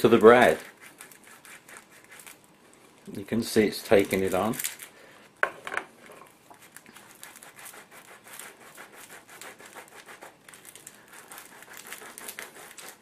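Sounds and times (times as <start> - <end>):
tomato scraping on toasted bread: 0.0 - 4.9, 6.0 - 13.0.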